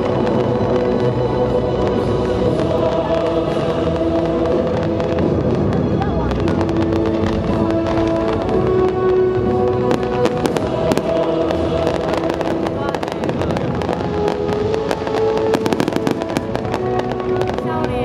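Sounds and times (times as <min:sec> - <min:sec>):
fireworks bangs and crackling: 0:00.0 - 0:18.0
music playing: 0:00.0 - 0:18.0.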